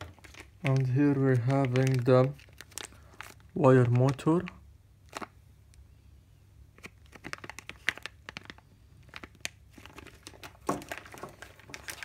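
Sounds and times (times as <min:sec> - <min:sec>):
plastic bag crinkling: 0:00.0 - 0:05.4, 0:06.8 - 0:12.0.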